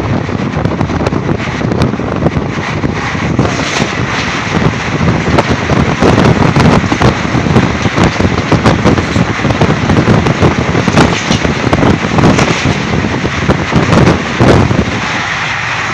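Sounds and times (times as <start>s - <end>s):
freight train wagons clattering: 0.0s - 15.9s.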